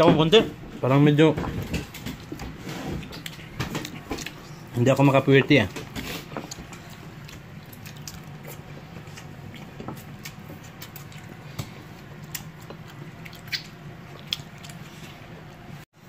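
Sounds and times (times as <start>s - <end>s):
people eating: 0.0s - 15.7s
low steady hum: 0.0s - 15.9s.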